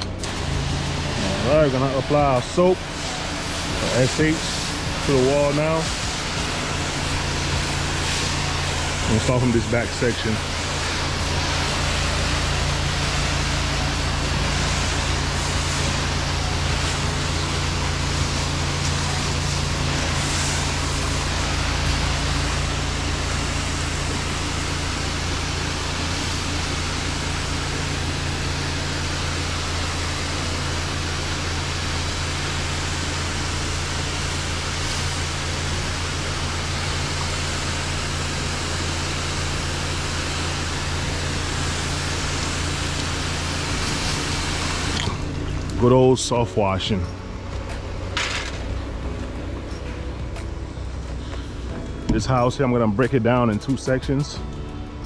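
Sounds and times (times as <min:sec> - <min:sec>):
pressure washer running: 0:00.0 - 0:55.0
water spray hissing: 0:00.3 - 0:45.8.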